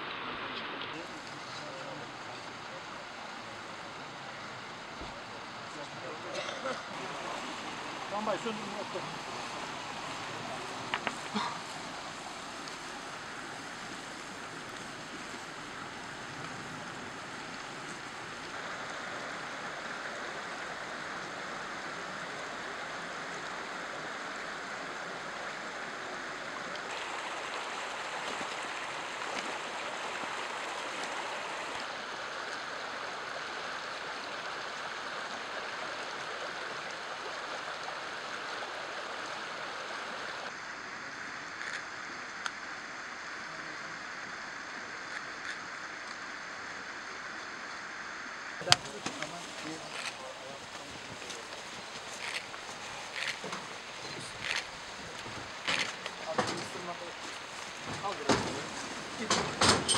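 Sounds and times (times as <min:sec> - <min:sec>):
flooded creek rushing: 0:00.0 - 0:59.9.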